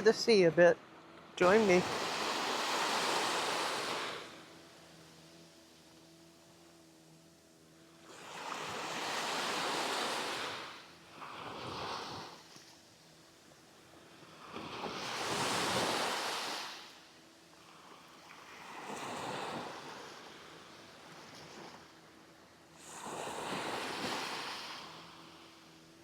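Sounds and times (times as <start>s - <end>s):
sea waves breaking on sand beach: 0.0s - 26.0s.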